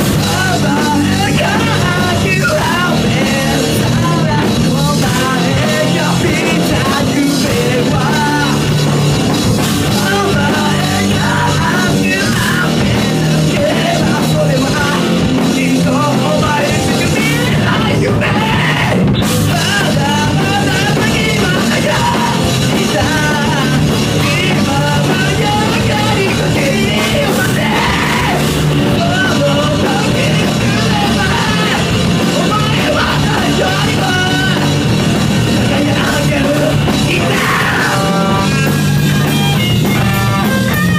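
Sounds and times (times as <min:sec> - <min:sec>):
hard rock band playing: 0:00.0 - 0:40.9
person singing: 0:00.0 - 0:40.9.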